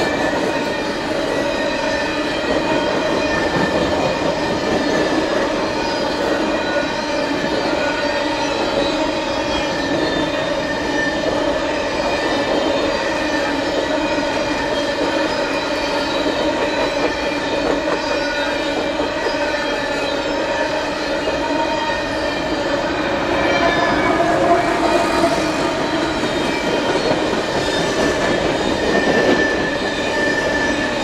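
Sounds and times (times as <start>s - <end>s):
freight train cars rolling: 0.0s - 31.0s.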